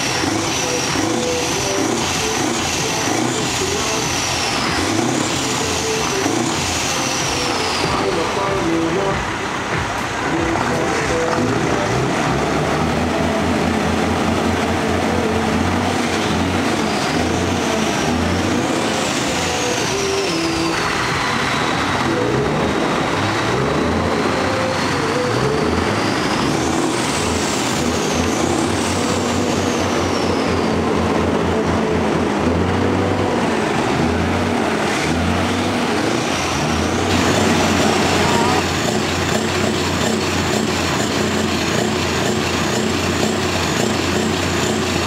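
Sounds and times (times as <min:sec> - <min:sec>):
diesel truck engine revving: 0:00.0 - 0:45.0.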